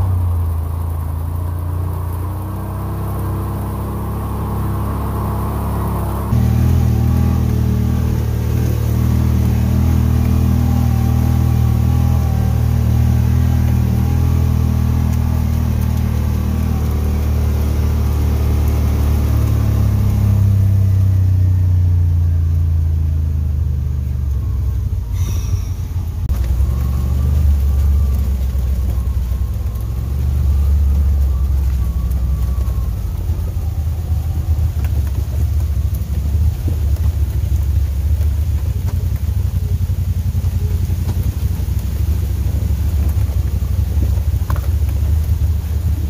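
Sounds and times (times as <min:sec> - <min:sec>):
utility vehicle engine running: 0:00.0 - 0:46.0.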